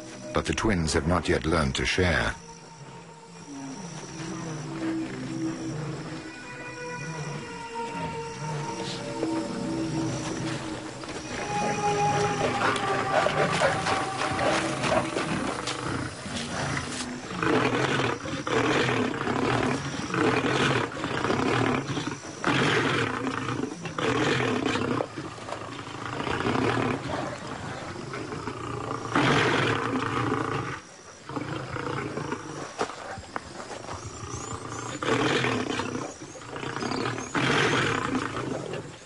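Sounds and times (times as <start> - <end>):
lions snarling and roaring: 1.9 - 39.0.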